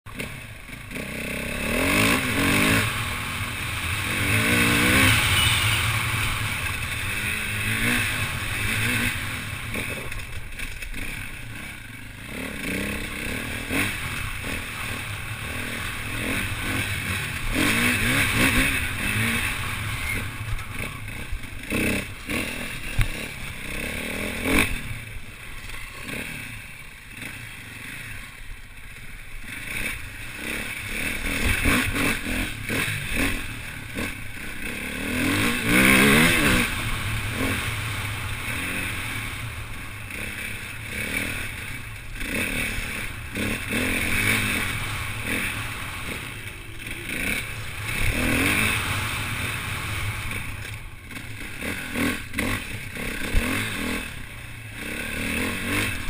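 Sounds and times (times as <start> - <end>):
motorcycle engine revving: 0.1 - 56.0.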